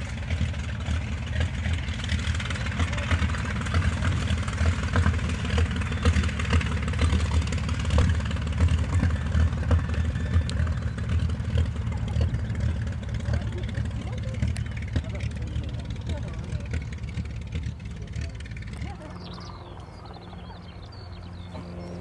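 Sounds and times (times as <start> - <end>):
aircraft piston engines running: 0.0 - 22.0.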